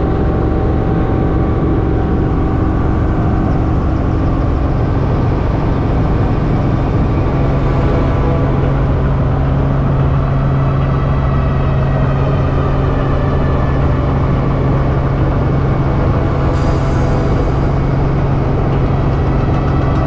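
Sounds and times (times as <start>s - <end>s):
low hums: 0.0s - 20.0s
vehicle engine and cabin noise: 0.0s - 20.0s.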